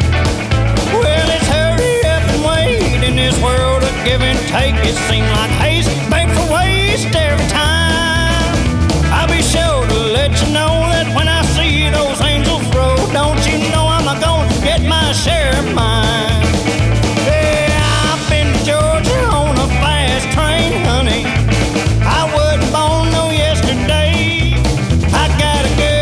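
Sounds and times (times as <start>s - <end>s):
country band instrumental: 0.0s - 26.0s.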